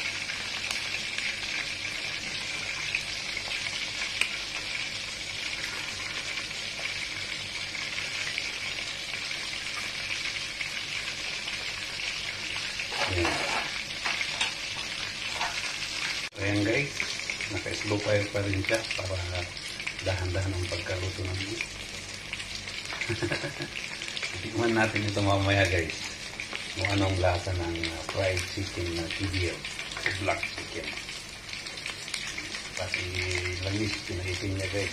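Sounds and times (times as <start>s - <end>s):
chicken deep-frying in oil: 0.0s - 34.9s.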